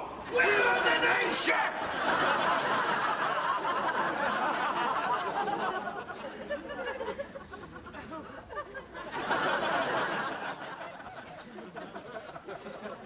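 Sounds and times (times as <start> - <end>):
audience laughter: 1.5 - 13.0.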